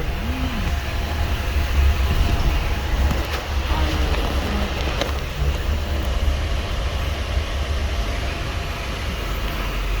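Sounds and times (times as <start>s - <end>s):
vehicle interior road rumble: 0.0s - 10.0s.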